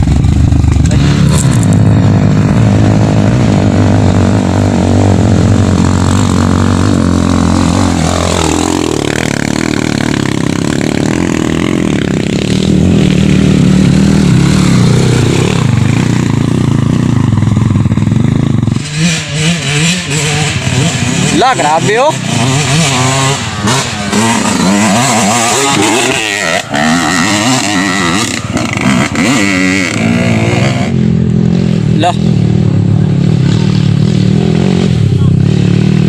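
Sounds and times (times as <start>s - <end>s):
dirt bike engines revving: 0.0s - 36.0s.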